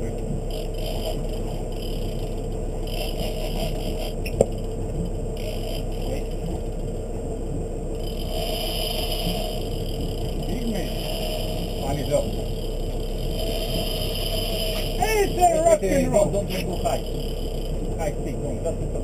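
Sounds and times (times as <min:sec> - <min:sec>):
boat engine humming: 0:00.0 - 0:19.0
fishing reel scraping and rattling: 0:00.5 - 0:07.0, 0:08.0 - 0:18.8.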